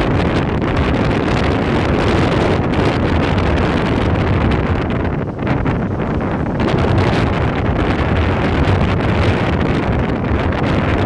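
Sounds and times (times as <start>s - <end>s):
waves washing over pier decking: 0.0s - 11.0s
wind on microphone: 0.0s - 11.0s.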